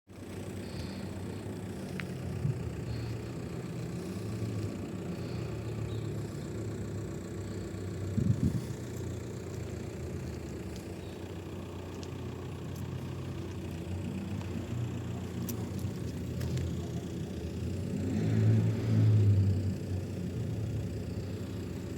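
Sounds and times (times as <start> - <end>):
diesel engine idling: 0.1 - 21.9.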